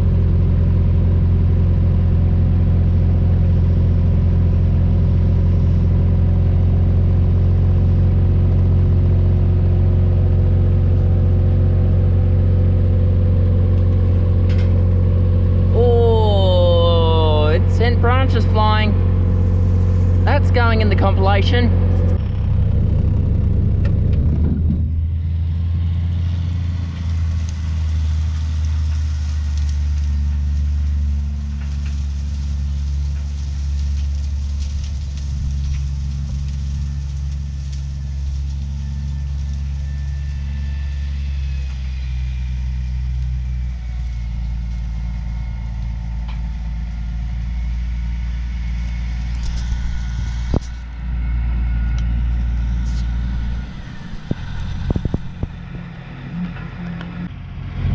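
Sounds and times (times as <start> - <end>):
heavy engine droning: 0.0 - 57.9.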